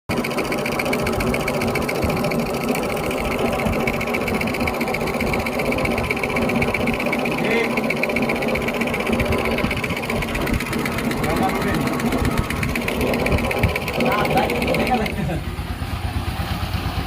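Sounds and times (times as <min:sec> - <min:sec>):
winding machine whirring: 0:00.1 - 0:15.7.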